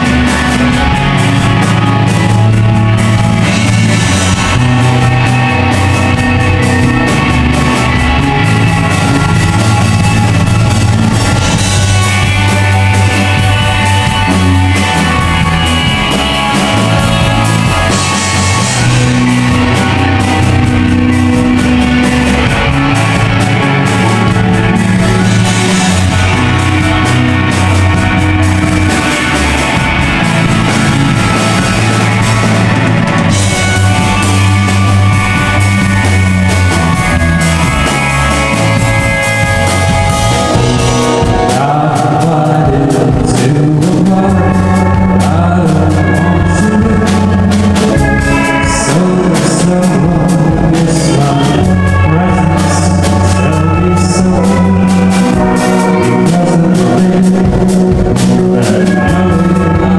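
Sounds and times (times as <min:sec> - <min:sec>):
man singing: 0:00.0 - 0:37.4, 0:38.6 - 0:59.9
drums: 0:00.0 - 0:59.9
electric guitar: 0:00.0 - 0:59.9.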